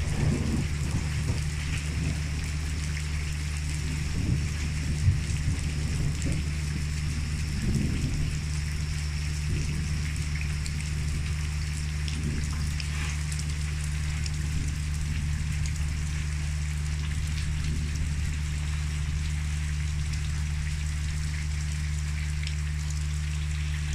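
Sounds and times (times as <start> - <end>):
low rumble: 0.0 - 23.9
rain falling on puddles: 0.0 - 23.9.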